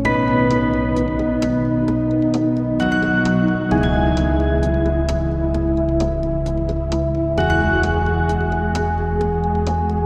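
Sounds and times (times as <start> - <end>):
calm ambient music: 0.0 - 10.0.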